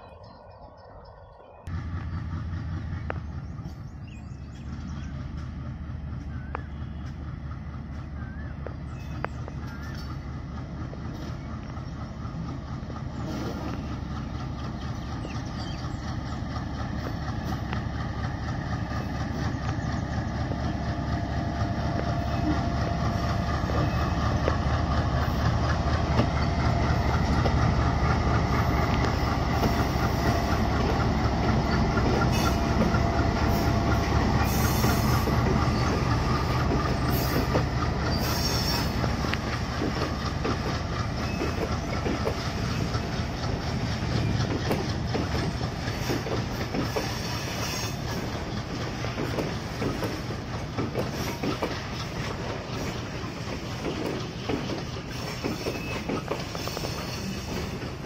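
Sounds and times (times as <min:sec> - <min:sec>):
diesel locomotive rumbling: 0:00.0 - 0:58.0.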